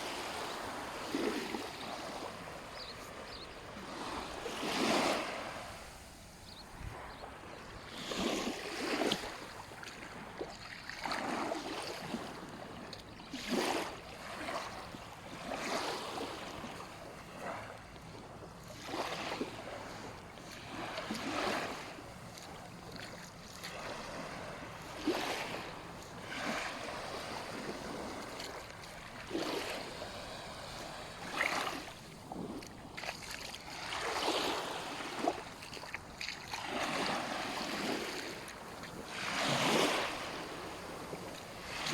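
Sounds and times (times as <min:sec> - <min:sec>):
waves washing onto sandy beach: 0:00.0 - 0:41.9.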